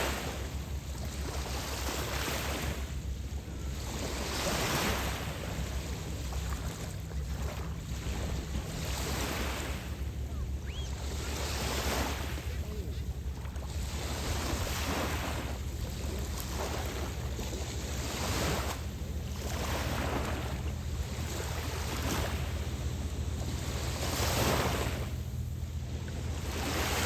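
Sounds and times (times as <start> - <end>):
small waves breaking on shore: 0.0 - 27.0.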